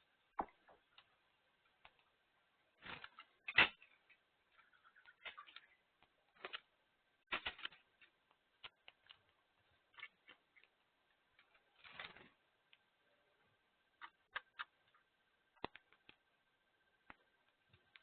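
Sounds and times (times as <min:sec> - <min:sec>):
birds pecking and cracking seed: 0:00.6 - 0:12.9, 0:13.9 - 0:16.3, 0:17.0 - 0:18.0.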